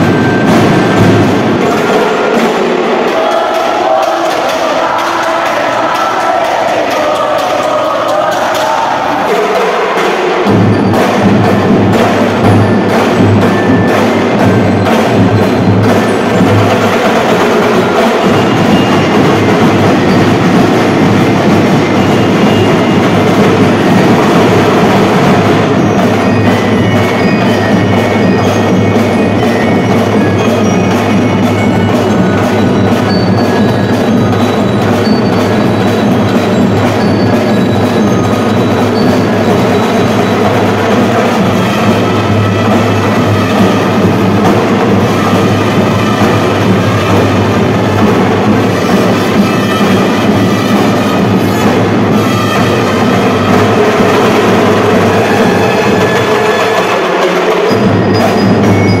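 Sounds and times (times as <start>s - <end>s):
marching drum line cadence: 0.0s - 59.0s
bell notes ringing: 10.5s - 57.0s, 57.7s - 59.0s.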